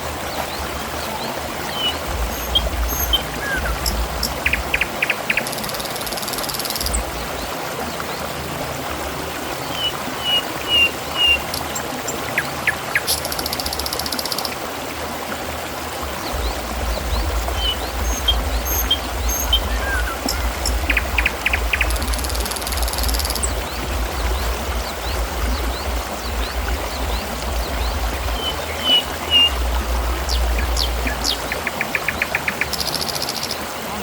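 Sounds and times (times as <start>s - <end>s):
water trickling and splashing: 0.0s - 34.0s.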